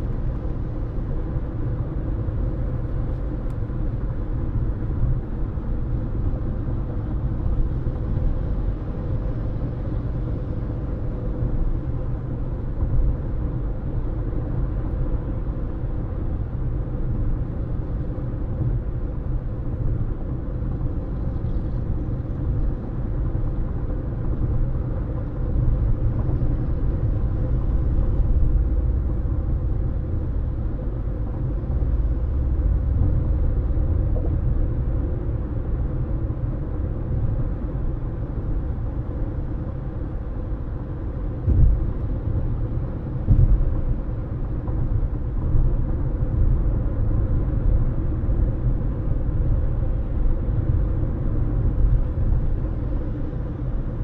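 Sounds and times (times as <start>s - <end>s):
car road rumble and tyre noise: 0.0s - 54.0s.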